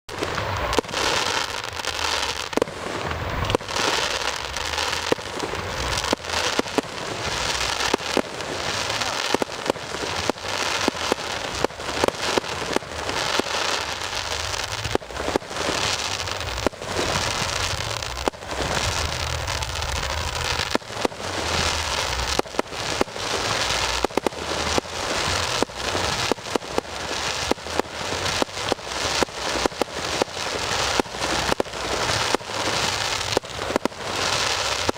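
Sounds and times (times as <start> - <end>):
continuous crackling hiss: 0.1 - 34.9
firework bangs: 0.1 - 34.9.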